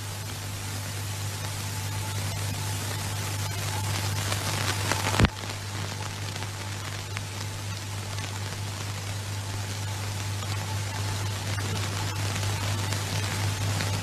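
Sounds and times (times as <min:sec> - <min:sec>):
crackle: 0:00.0 - 0:14.0
film soundtrack hiss: 0:00.0 - 0:14.0
steady low hum: 0:00.0 - 0:14.0.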